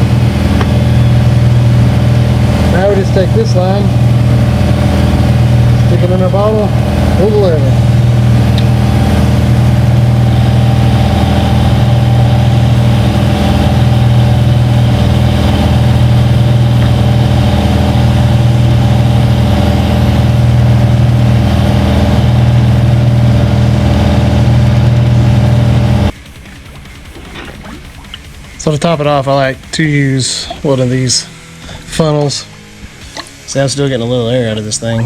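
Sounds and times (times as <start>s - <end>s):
air compressor running: 0.0s - 34.6s.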